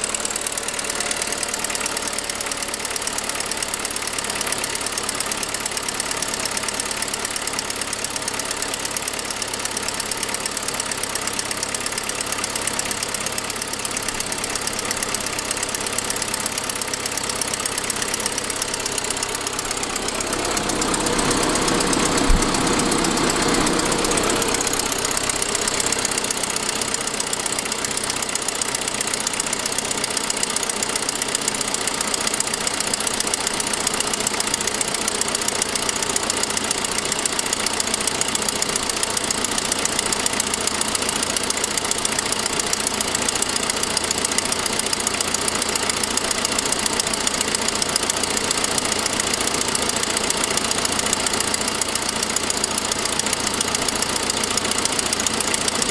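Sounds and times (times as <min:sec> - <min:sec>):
engine knock: 0:00.0 - 0:55.9
engine running with ticking: 0:00.0 - 0:55.9.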